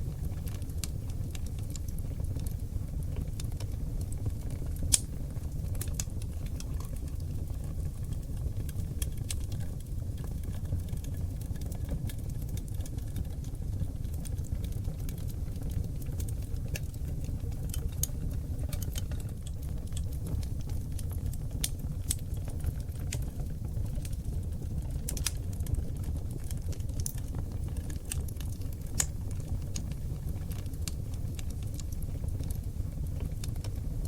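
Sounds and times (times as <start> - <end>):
log fire crackling and popping: 0.0 - 34.0.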